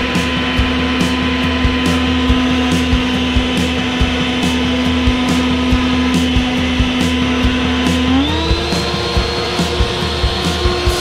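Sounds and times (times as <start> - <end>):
leaf blower running: 0.0 - 11.0.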